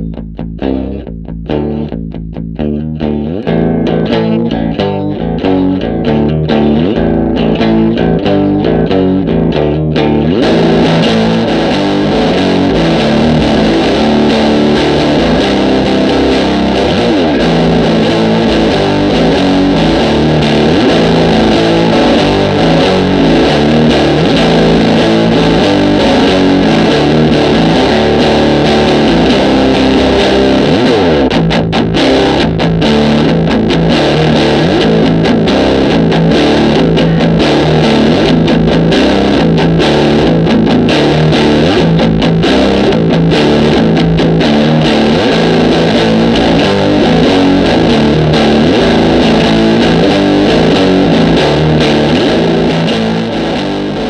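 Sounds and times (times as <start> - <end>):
distorted electric guitar riffs: 0.0 - 54.0.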